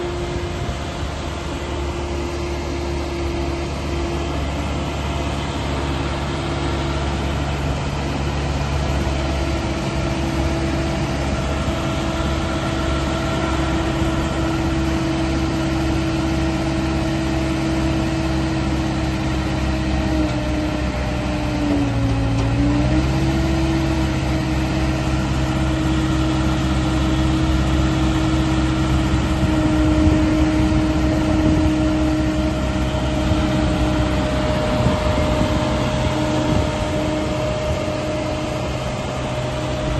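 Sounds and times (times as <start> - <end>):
diesel engine running: 0.0 - 39.9
hydraulic boom whine: 0.0 - 39.9.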